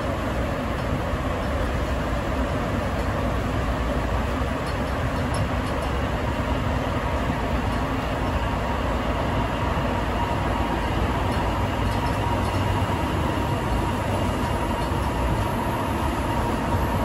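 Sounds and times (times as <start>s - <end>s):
faint steady whine: 0.0s - 17.0s
subway train rumble and hiss: 0.0s - 17.0s.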